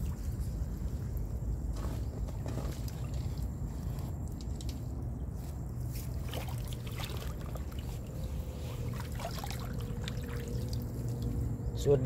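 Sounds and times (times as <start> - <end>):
water sloshing and splashing: 0.0 - 11.6
steady low rumble: 0.0 - 12.0.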